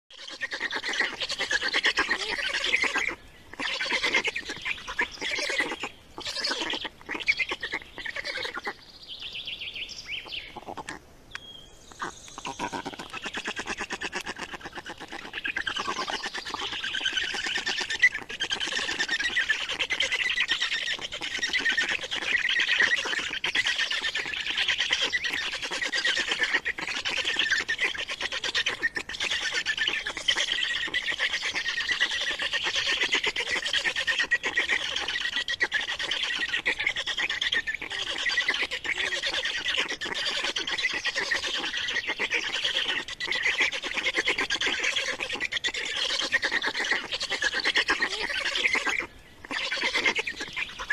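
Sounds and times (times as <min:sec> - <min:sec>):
small bird chirping: 0:00.2 - 0:50.9.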